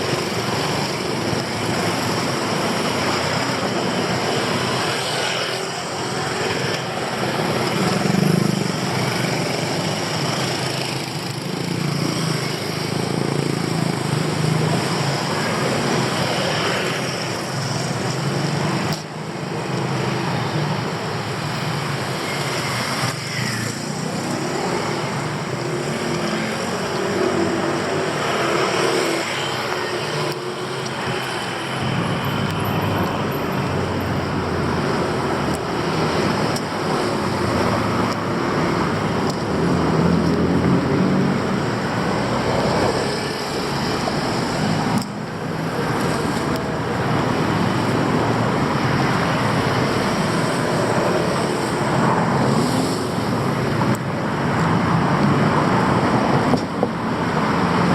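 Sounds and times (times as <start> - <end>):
road traffic passing: 0.0 - 57.9.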